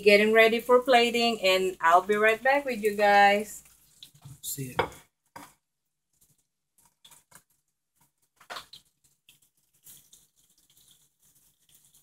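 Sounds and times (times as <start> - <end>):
food crackling in hot oil: 0.0 - 12.0.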